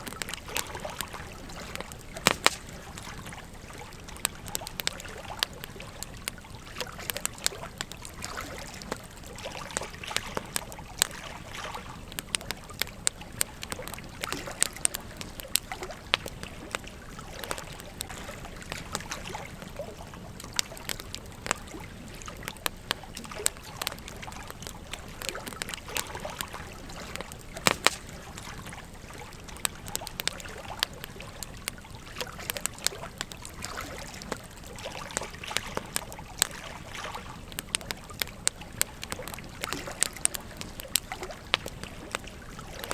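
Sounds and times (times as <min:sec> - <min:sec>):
campfire crackling and popping: 0:00.0 - 0:42.9
gentle stream babbling: 0:00.0 - 0:42.9.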